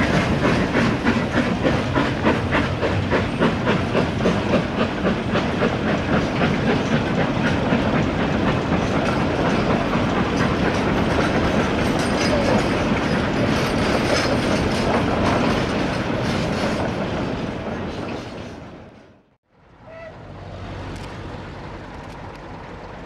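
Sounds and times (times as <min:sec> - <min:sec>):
wheels clacking over rail joints: 0:00.0 - 0:19.2
train coaches rumbling past: 0:00.0 - 0:23.0.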